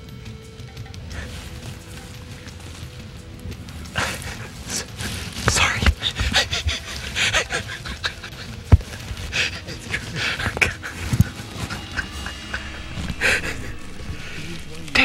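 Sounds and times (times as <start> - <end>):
men laughing: 1.1 - 15.0.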